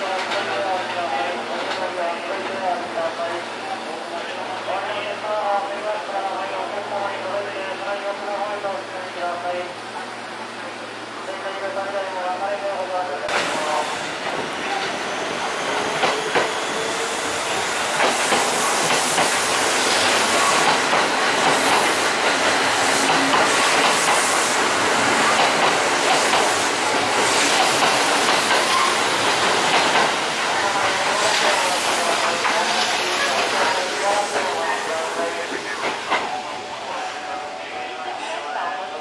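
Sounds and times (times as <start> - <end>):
train running past: 0.0 - 39.0.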